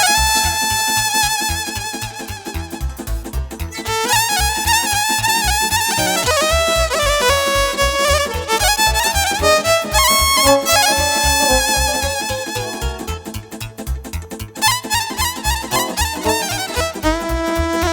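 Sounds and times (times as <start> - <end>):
violin folk dance melody: 0.0 - 3.1, 3.7 - 13.6, 14.6 - 17.9
quick bass beat: 0.0 - 17.9.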